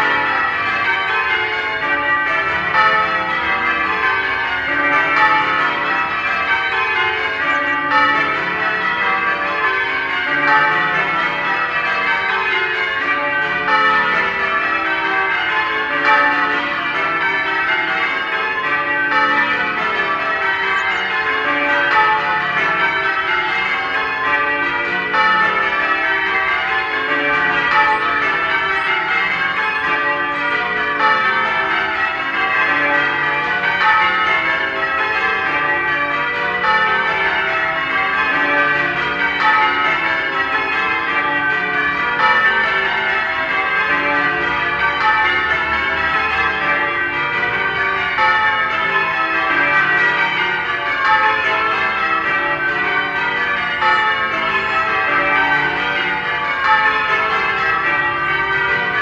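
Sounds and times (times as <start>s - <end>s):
church bells ringing changes: 0.0s - 59.0s.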